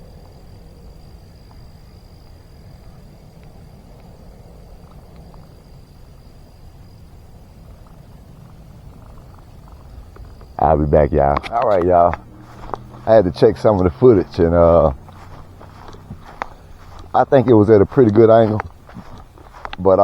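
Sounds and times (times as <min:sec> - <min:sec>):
high insect-like trill: 0:00.0 - 0:20.0
steady low rumble: 0:00.0 - 0:20.0
faint ticks: 0:01.0 - 0:05.9, 0:07.6 - 0:20.0.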